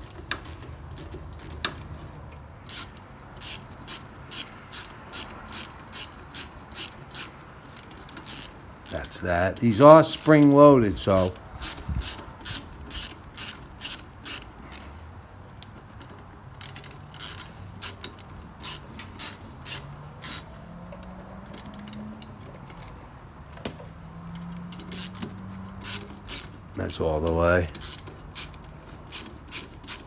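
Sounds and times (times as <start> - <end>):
ratchet clicking: 0.0 - 30.0.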